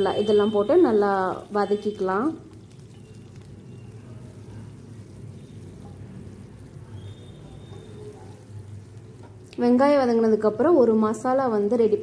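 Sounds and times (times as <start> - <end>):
food frying in oil: 0.0 - 12.0.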